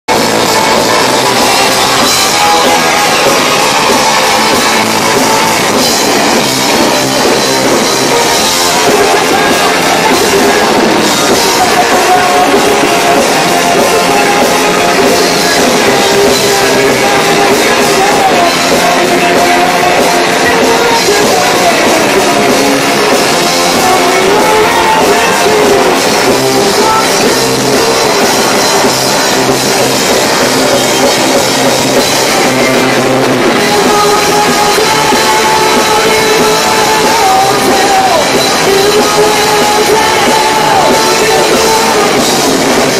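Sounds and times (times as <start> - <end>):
electric guitar: 0.0 - 42.9
drum kit: 0.1 - 42.9
person singing: 0.1 - 42.9.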